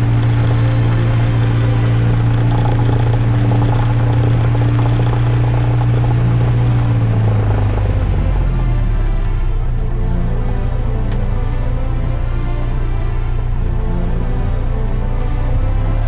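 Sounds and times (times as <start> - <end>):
airplane engine drone: 0.0 - 13.5
deep rumble: 0.0 - 16.0.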